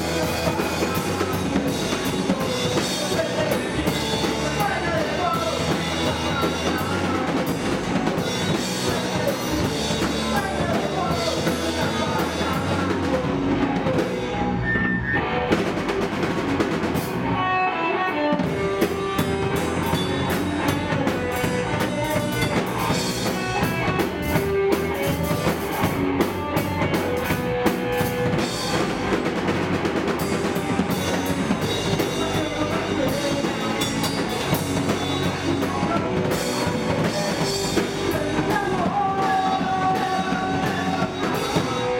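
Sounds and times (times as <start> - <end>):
electric guitar notes: 0.0 - 41.9
punk rock band playing live: 0.0 - 41.9.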